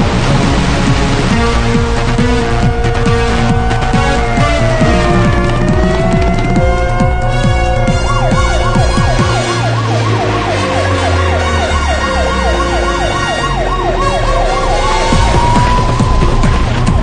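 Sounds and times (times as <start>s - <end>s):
background music: 0.0s - 17.0s
siren yelping and wailing: 1.4s - 17.0s.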